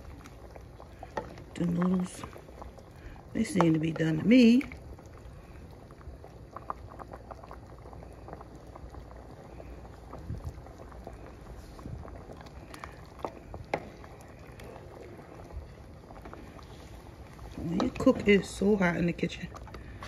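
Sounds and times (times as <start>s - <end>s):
water boiling and bubbling: 0.0s - 20.0s.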